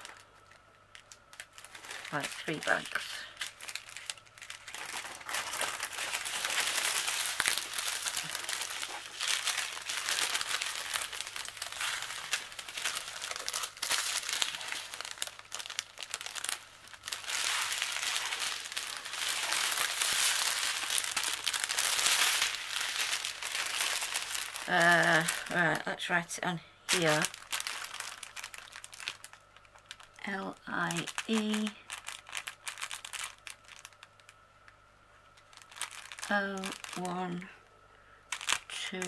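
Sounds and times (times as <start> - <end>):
plastic packaging crinkling: 0.0 - 37.6, 38.3 - 39.0.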